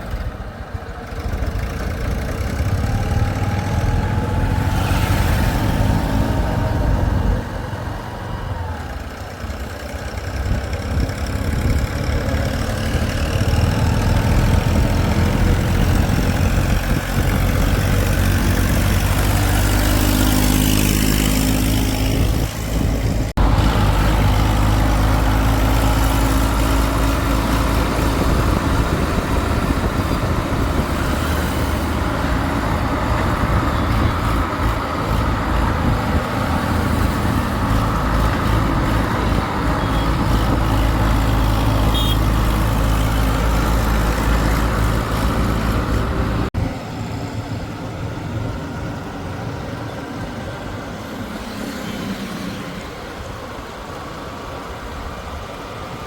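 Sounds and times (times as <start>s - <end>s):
heavy diesel engine running: 0.0s - 51.2s
quieter engine running: 0.0s - 56.0s.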